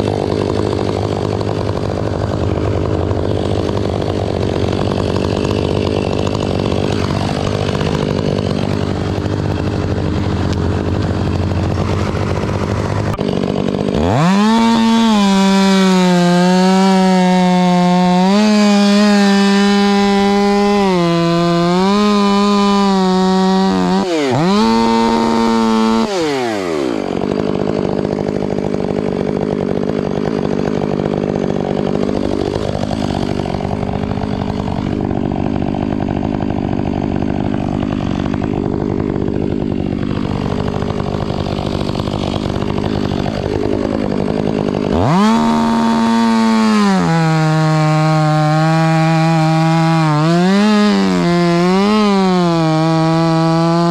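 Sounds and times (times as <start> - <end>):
chainsaw engine revving: 0.0 - 53.9.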